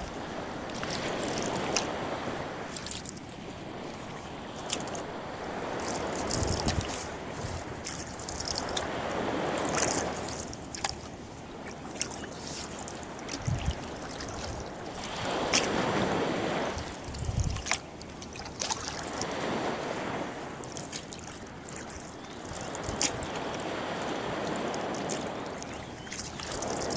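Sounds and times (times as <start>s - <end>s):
dull knocks of oars: 0.0s - 19.6s, 20.6s - 26.9s
oars splashing in water: 0.0s - 26.9s.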